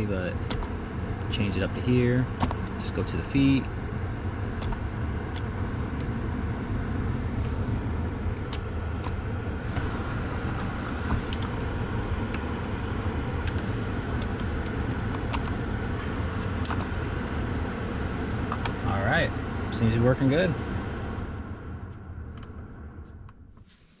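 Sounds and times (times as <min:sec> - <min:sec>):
car blower fan humming: 0:00.0 - 0:24.0.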